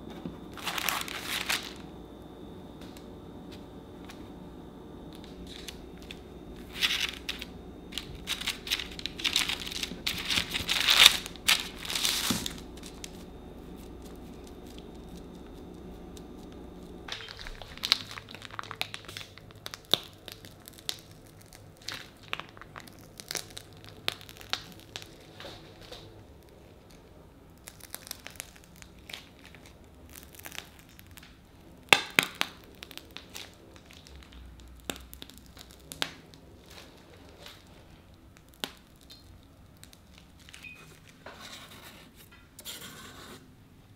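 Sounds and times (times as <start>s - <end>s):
piping bag rustles: 0.0s - 2.0s, 5.0s - 42.8s
parchment paper crinkling: 0.1s - 1.9s, 5.1s - 43.4s.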